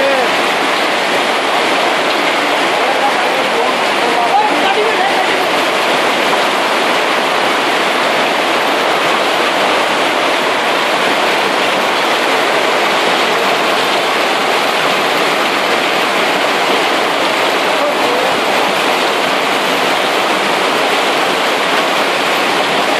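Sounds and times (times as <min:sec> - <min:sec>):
hail and rain pelting: 0:00.0 - 0:22.9.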